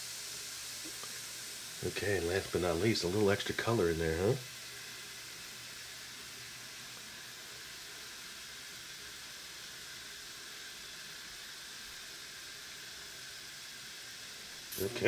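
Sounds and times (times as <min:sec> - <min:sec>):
fizzing hiss of foaming liquid: 0:00.0 - 0:15.0.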